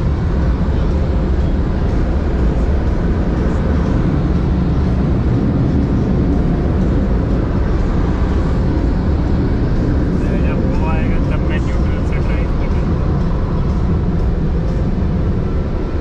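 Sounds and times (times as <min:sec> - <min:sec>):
car wash machinery rumbling: 0:00.0 - 0:16.0.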